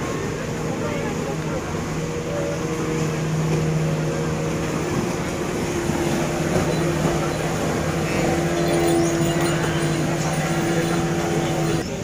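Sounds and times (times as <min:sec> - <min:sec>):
speedboat engine drone: 0:00.0 - 0:12.0.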